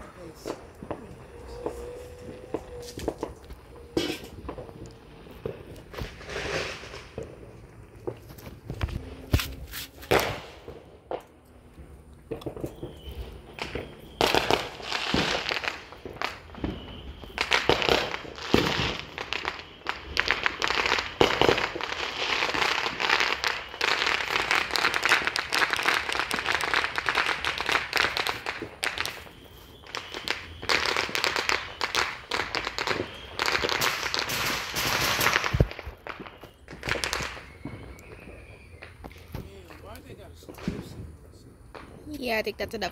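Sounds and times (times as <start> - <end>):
firecrackers crackling: 0.0 - 42.9
loud firecracker pops: 1.6 - 11.4, 12.3 - 41.1.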